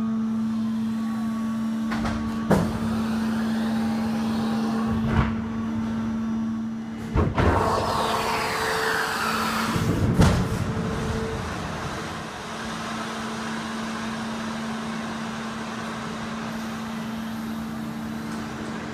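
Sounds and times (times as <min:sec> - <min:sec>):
hydraulic whine: 0:00.0 - 0:18.9
steady hum: 0:00.0 - 0:18.9.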